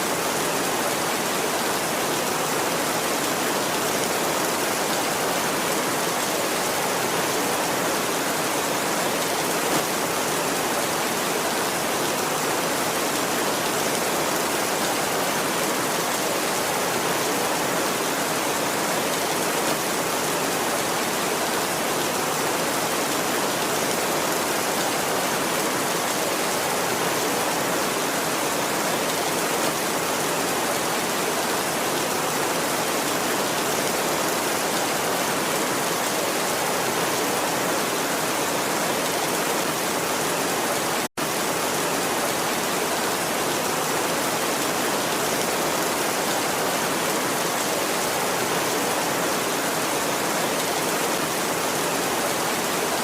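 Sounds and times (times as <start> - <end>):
heavy rain on a tin roof: 0.0 - 53.0.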